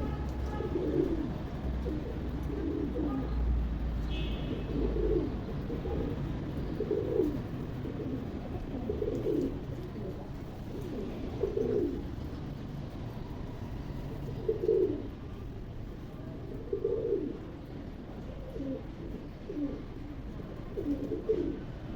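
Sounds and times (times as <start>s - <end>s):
pigeons cooing: 0.0s - 12.4s, 14.0s - 15.2s, 16.4s - 21.9s.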